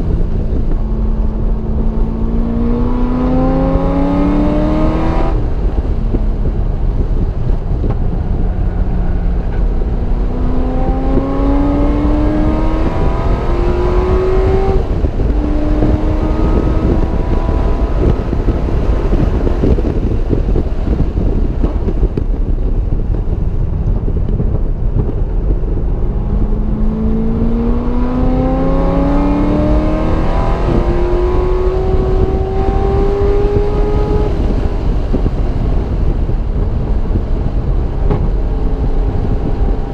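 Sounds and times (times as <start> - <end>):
race car engine revving: 0.0 - 6.0, 7.8 - 21.3, 25.1 - 39.9
wind and road noise rumble: 0.0 - 39.9.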